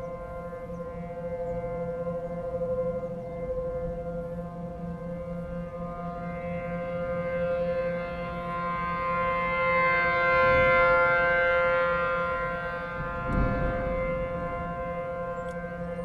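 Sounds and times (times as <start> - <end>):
rotating warning siren: 0.0 - 16.0.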